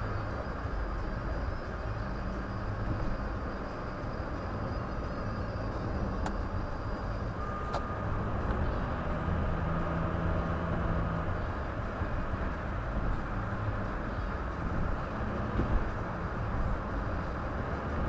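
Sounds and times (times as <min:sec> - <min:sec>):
car road and engine rumble: 0:00.0 - 0:18.0
faint thin whine: 0:00.0 - 0:18.0.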